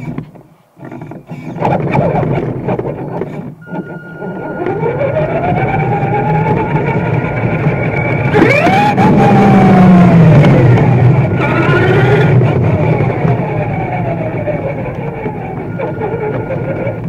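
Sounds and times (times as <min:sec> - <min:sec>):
rc car motor whining: 0:00.0 - 0:17.0.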